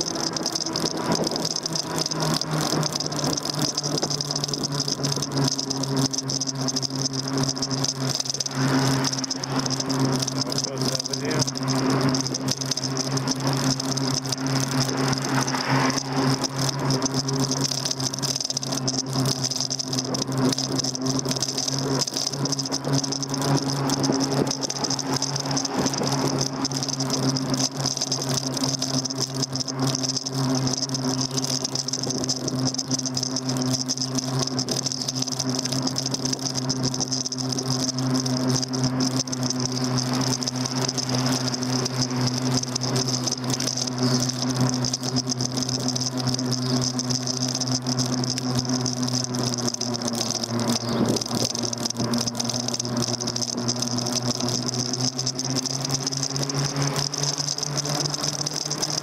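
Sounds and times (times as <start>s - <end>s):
constant rattle: 0.0s - 59.0s
electric motor hum and whine: 0.0s - 59.0s.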